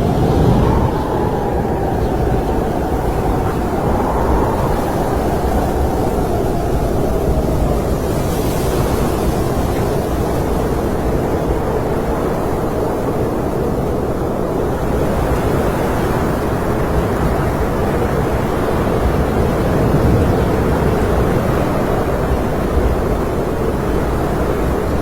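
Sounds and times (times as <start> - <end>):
snowstorm wind blowing: 0.0 - 25.0.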